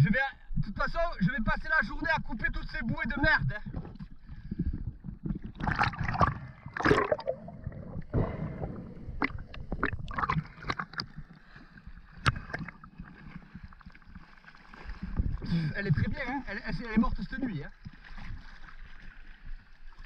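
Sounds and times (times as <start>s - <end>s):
sea water splashing and sloshing: 2.7s - 20.0s.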